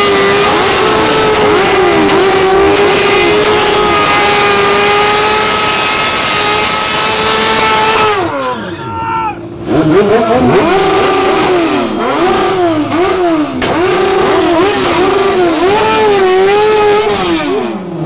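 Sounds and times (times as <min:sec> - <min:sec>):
motorcycle engine revving hard: 0:00.0 - 0:08.5, 0:09.6 - 0:18.0.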